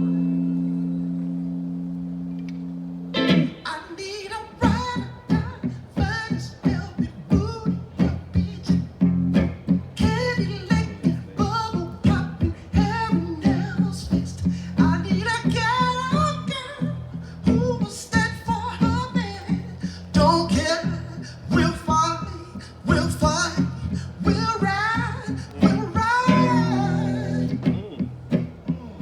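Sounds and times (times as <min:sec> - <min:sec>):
acoustic guitar strumming: 0:00.0 - 0:03.8, 0:04.7 - 0:29.0
man singing: 0:03.6 - 0:08.9, 0:09.9 - 0:28.0.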